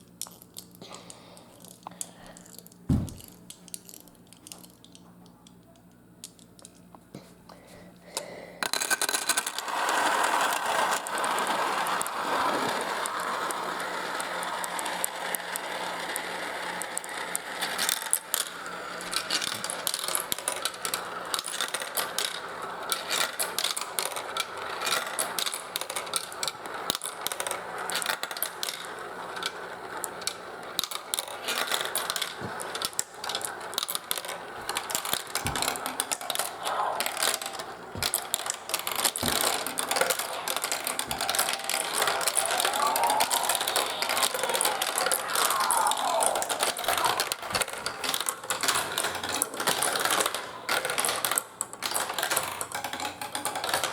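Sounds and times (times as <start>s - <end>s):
marbles clattering through marble run: 8.6s - 53.9s.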